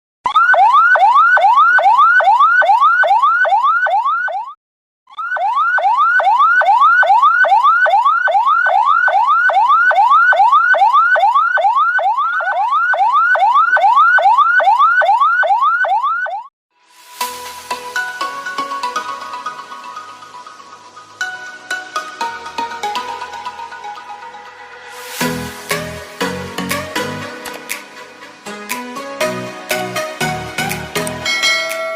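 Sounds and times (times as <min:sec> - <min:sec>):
ambulance siren yelp: 0:00.3 - 0:16.5, 0:18.2 - 0:31.2.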